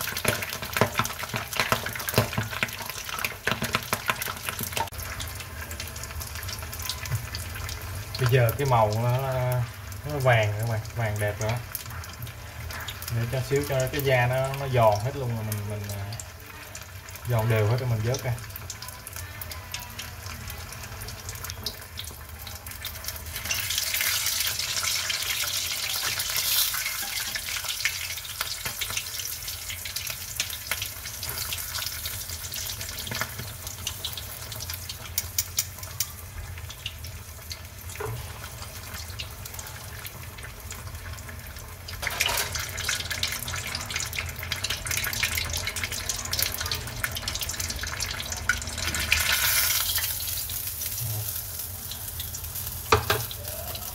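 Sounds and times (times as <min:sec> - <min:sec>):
meat deep-frying in oil: 0:00.0 - 0:53.9.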